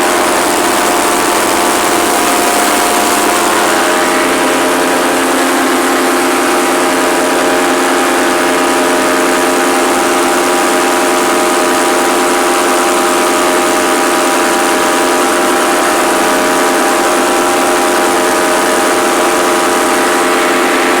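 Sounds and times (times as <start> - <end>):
paramotor engine and propeller: 0.0 - 21.0.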